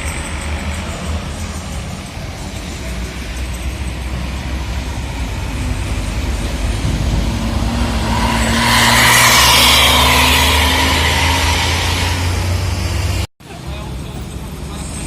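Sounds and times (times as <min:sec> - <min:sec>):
heavy vehicle passing by: 0:00.0 - 0:15.0.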